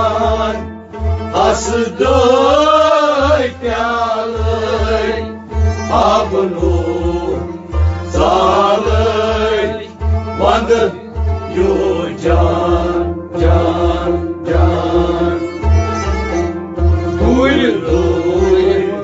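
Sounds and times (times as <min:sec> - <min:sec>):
bowed sarangi: 0:00.0 - 0:19.0
harmonium: 0:00.0 - 0:19.0
low rhythmic beat: 0:00.0 - 0:19.0
person singing: 0:00.0 - 0:19.0.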